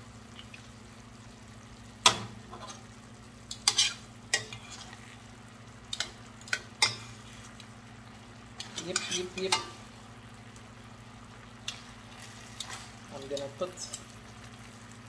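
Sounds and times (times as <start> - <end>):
sauce sizzling: 0.0 - 15.0.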